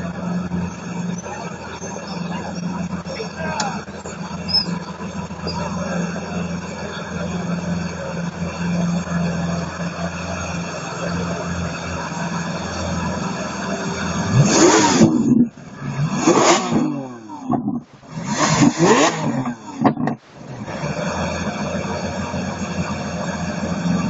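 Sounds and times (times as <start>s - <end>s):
engine revving: 0.0s - 24.0s
engines idling: 0.0s - 24.0s.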